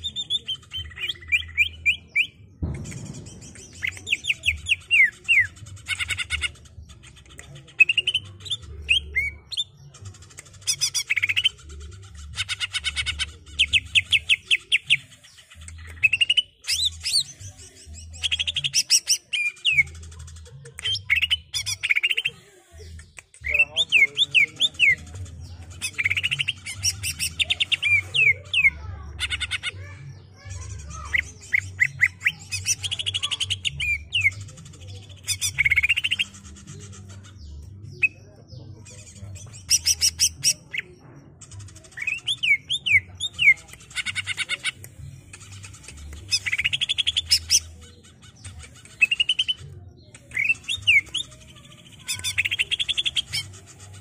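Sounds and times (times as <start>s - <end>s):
bird singing trills and whistles: 0.0s - 29.7s, 30.6s - 38.2s, 41.5s - 54.0s.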